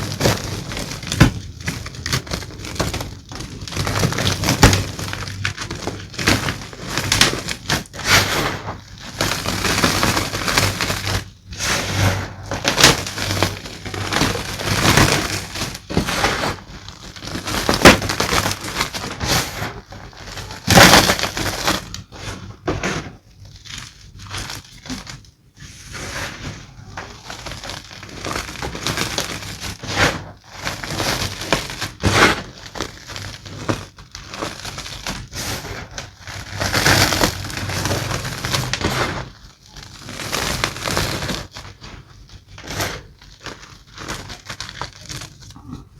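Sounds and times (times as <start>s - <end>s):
chalk crunching: 0.0s - 45.5s.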